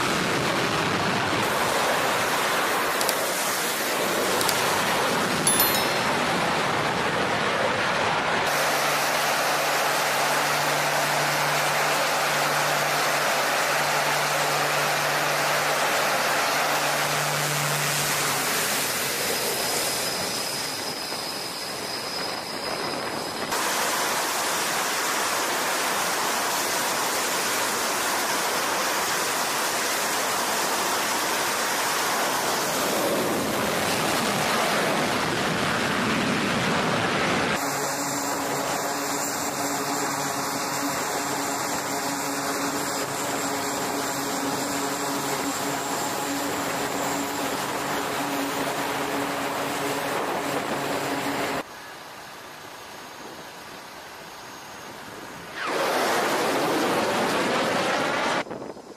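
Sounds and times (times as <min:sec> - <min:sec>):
aircraft engines roaring: 0:00.0 - 0:58.6.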